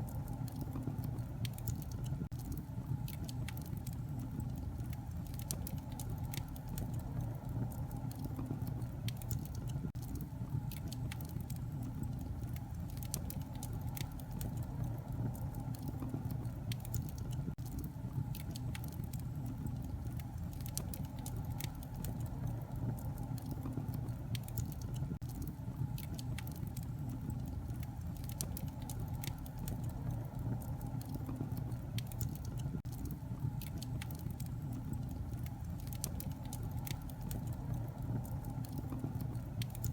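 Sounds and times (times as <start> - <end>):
low rumble of flames: 0.0 - 39.9
sharp pops and snaps: 0.0 - 39.9
wood fire crackling: 0.0 - 39.9.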